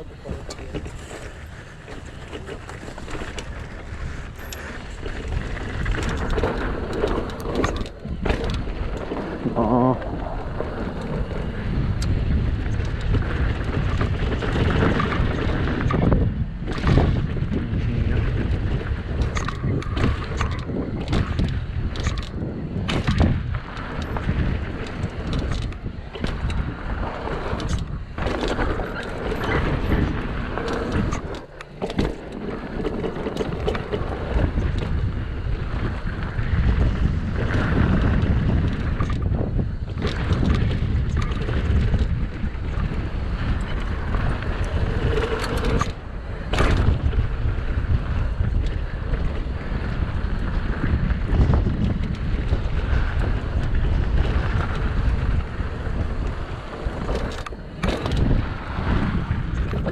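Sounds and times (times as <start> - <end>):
bike clattering over bumps: 0.0 - 59.9
bike tyre noise: 0.0 - 59.9
wind rushing over microphone: 0.0 - 59.9.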